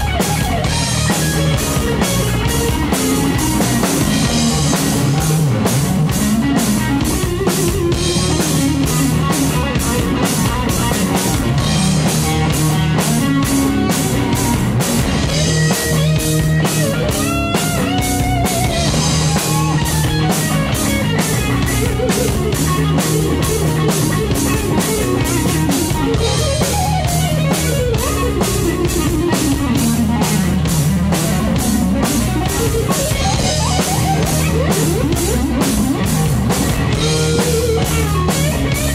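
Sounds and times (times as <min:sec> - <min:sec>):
bass guitar: 0:00.0 - 0:38.9
drum kit beat: 0:00.0 - 0:38.9
electric guitar bending notes: 0:00.0 - 0:38.9.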